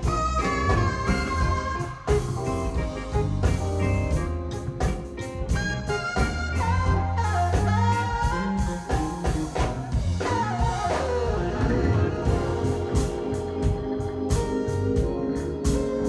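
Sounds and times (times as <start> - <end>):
drum kit: 0.0 - 16.0
electric bass: 0.0 - 16.0
lead melody bending in pitch: 0.0 - 16.0.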